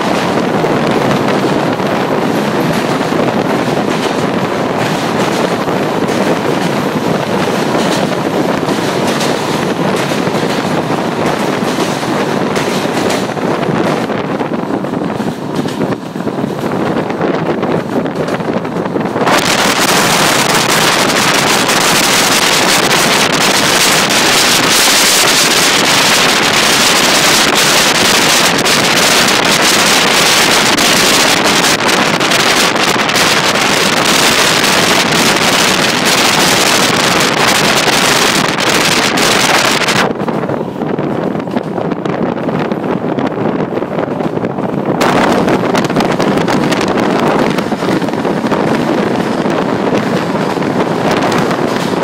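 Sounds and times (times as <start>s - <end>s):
train running noise: 0.0s - 52.0s
wind rushing over microphone: 0.0s - 52.0s.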